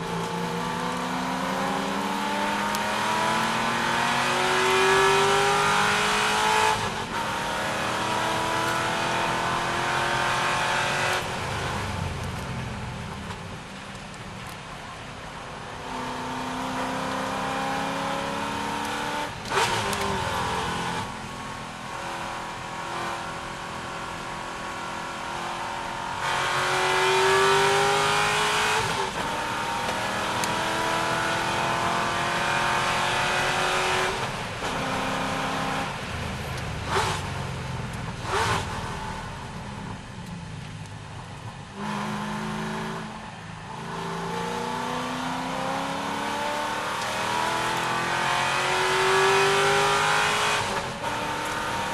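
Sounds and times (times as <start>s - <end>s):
race car engine: 0.0s - 51.9s.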